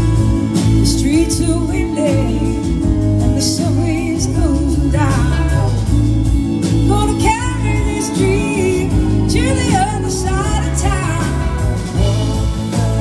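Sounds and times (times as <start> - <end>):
live blues band: 0.0 - 13.0
wavering lead melody: 0.0 - 13.0.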